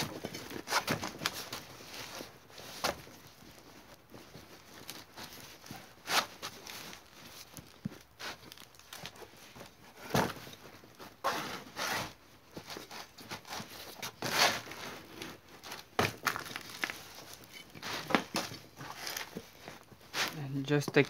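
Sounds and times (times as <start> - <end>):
rubber tyre rubbing and scuffing: 0.0 - 8.4, 11.0 - 21.0
cardboard crinkling: 0.0 - 21.0.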